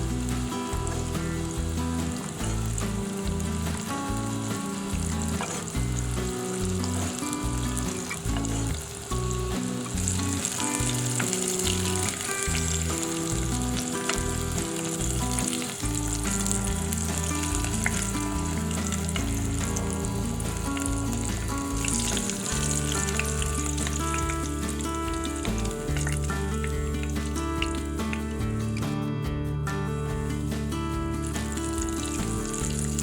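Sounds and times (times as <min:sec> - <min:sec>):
vegetables sizzling in oil: 0:00.0 - 0:28.8, 0:30.2 - 0:33.0
background music: 0:00.0 - 0:33.0.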